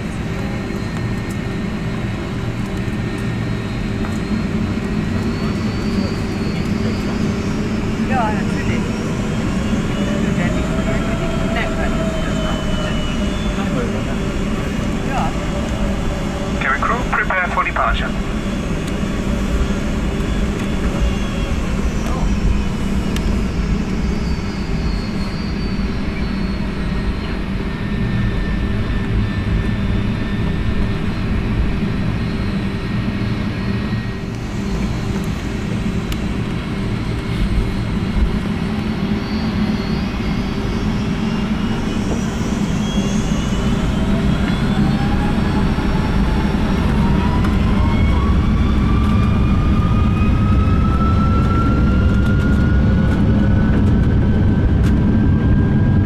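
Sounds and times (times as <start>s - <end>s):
jet engines rumbling: 0.0s - 56.0s
rising engine whine: 0.0s - 56.0s.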